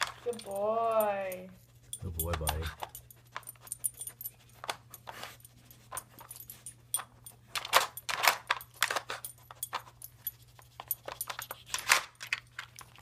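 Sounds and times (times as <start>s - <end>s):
collar tag jingling: 0.0s - 11.9s.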